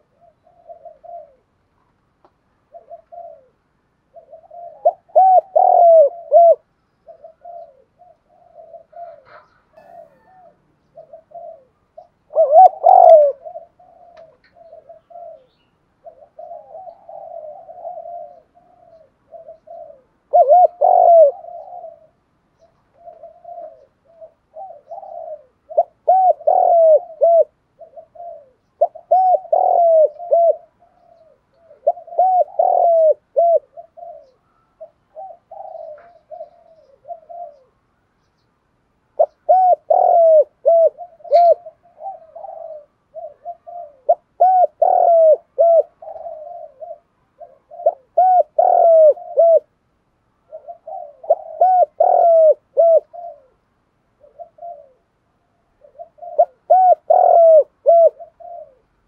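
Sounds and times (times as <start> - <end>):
dove cooing: 0.0 - 38.4, 39.1 - 59.0.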